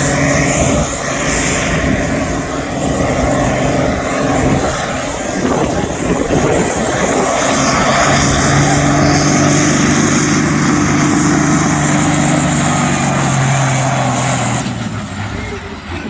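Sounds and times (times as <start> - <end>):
high turbo whine: 0.0 - 16.0
tractor engine at high revs: 0.0 - 16.0.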